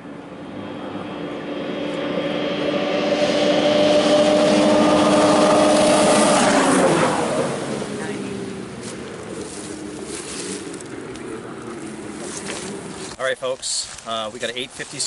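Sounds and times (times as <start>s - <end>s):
snowmobile passing at full throttle: 0.0s - 13.2s.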